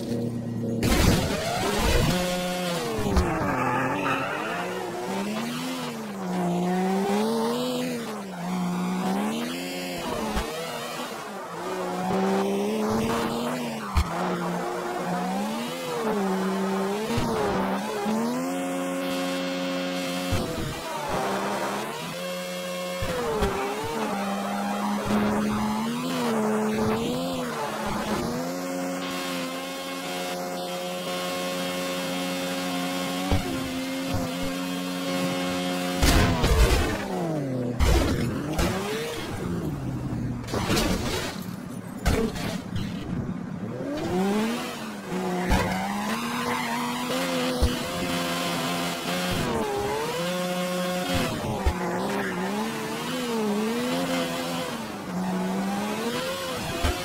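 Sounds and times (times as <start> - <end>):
video game car engine drone: 0.0 - 57.0.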